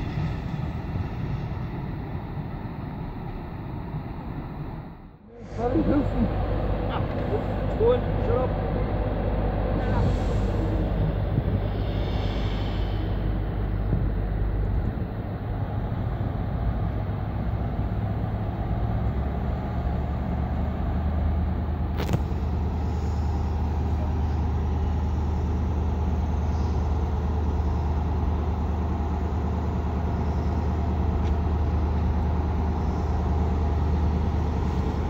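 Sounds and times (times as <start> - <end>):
diesel train engine rumble: 0.0 - 35.0.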